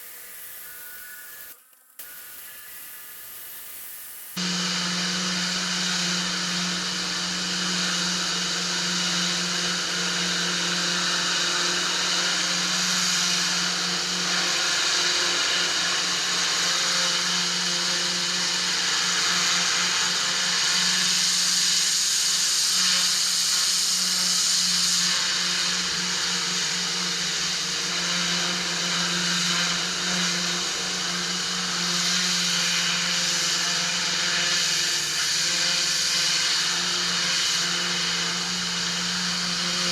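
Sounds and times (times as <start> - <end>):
water jet spraying on paving: 0.0 - 4.5, 5.8 - 39.9
pressure washer motor hum: 0.0 - 39.9.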